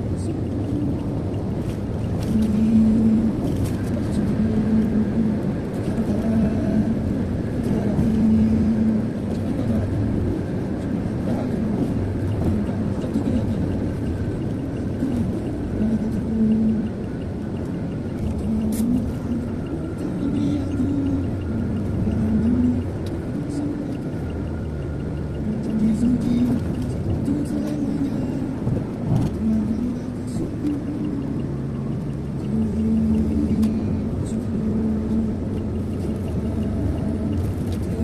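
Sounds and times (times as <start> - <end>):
car engine and road noise: 0.0 - 38.0
hum: 0.0 - 38.0.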